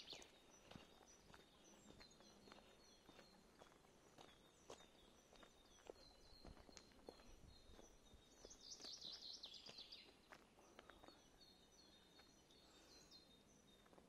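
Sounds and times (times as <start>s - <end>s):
soft footsteps: 0.0s - 11.4s
songbirds singing: 0.0s - 14.0s.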